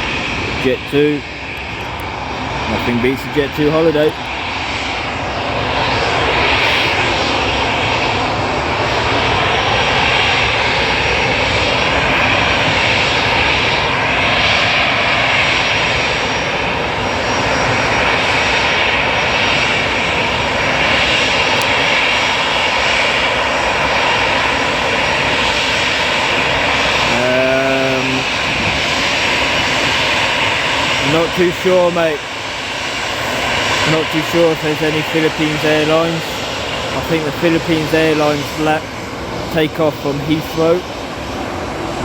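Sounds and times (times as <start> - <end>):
jet airliner roaring past: 0.0 - 42.0.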